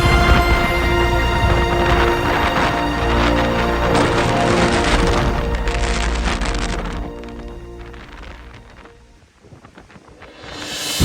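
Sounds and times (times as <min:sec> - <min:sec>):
background music with held tones: 0:00.0 - 0:09.2
dense noisy wash: 0:00.0 - 0:09.4, 0:10.1 - 0:11.0.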